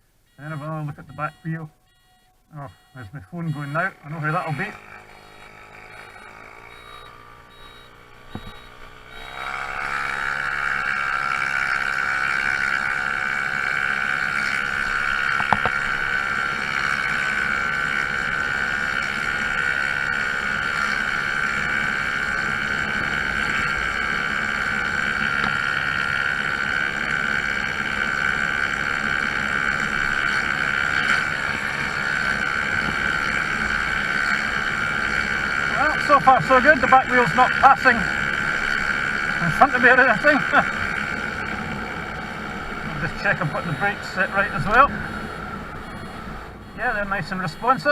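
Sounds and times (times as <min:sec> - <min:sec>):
scooter engine idling and revving: 0:00.3 - 0:47.9.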